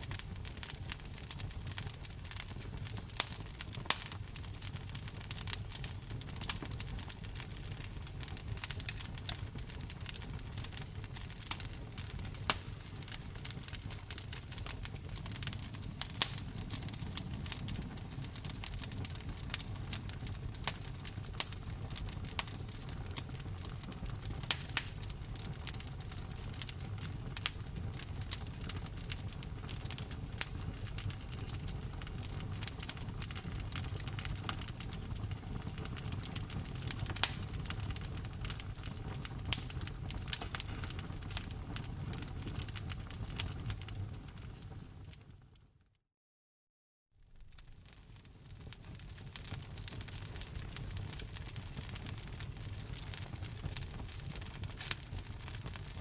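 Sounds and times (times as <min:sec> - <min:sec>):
low rumble of flames: 0:00.0 - 0:45.5, 0:47.2 - 0:56.0
wood fire crackling and popping: 0:00.0 - 0:45.5, 0:47.2 - 0:56.0.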